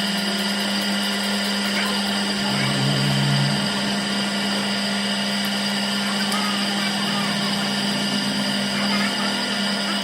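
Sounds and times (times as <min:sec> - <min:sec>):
power tool motor humming and whining: 0:00.0 - 0:10.0.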